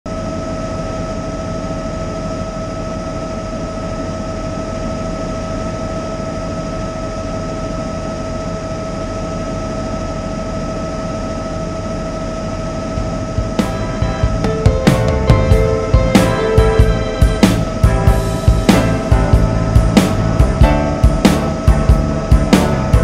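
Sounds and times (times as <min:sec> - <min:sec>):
helicopter engine and rotor rumble: 0:00.1 - 0:23.0
steady high whine: 0:00.1 - 0:23.0.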